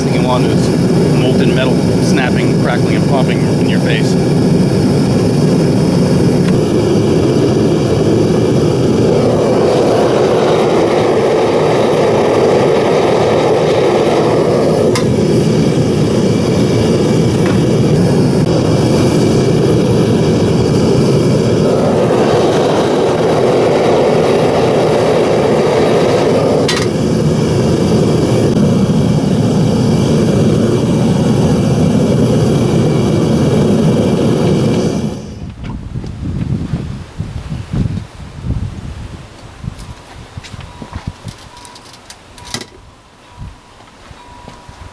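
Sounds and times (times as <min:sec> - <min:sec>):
furnace burner roaring: 0:00.0 - 0:38.0.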